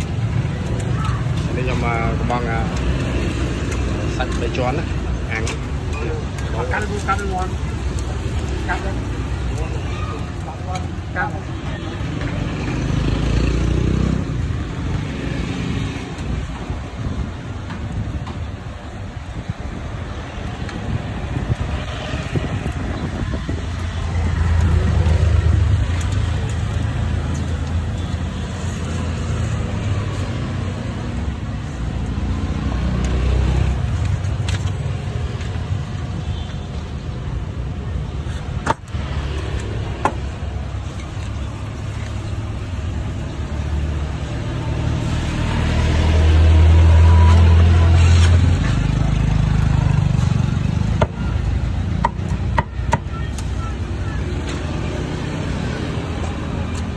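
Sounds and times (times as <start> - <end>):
low street rumble: 0.0 - 56.9.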